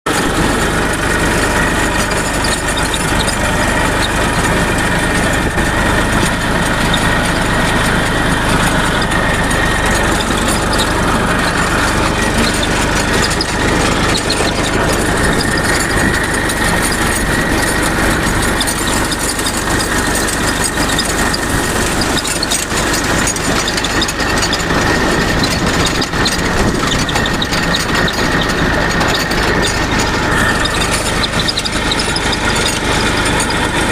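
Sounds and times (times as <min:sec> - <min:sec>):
tractor engine running: 0:00.0 - 0:33.9
mechanical joint noise: 0:00.2 - 0:33.9.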